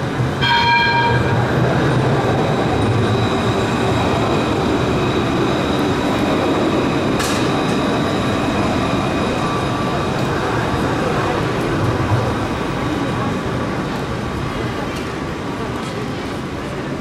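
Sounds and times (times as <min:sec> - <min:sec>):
tram wheels rumbling on rail: 0:00.0 - 0:17.0.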